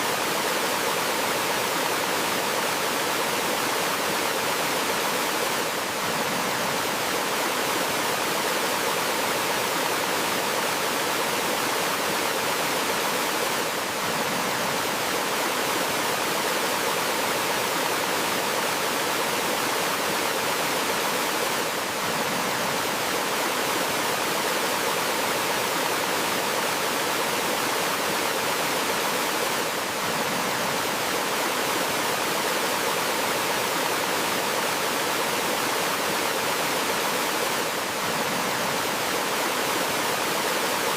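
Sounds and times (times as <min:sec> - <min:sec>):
waterfall and stream flowing: 0:00.0 - 0:40.9.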